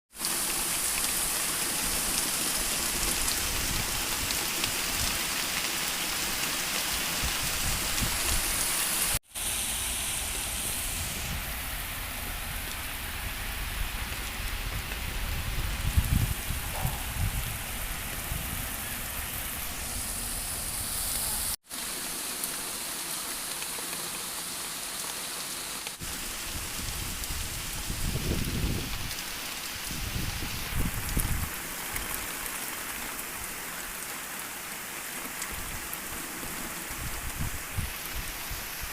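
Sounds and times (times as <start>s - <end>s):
rain falling: 0.1s - 38.9s.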